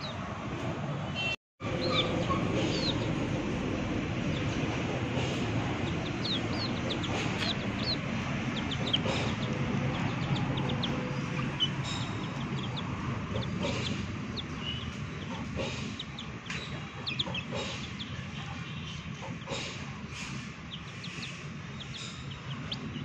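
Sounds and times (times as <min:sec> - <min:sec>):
chicks peeping: 0:01.6 - 0:23.0
low background rumble: 0:01.6 - 0:23.0.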